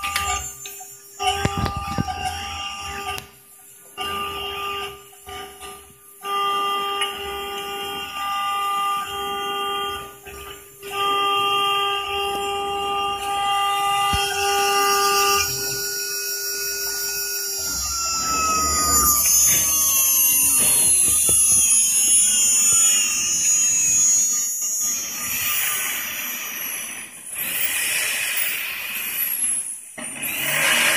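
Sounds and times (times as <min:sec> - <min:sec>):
router spindle whine: 0:00.0 - 0:30.9
thin high whine: 0:00.0 - 0:30.9.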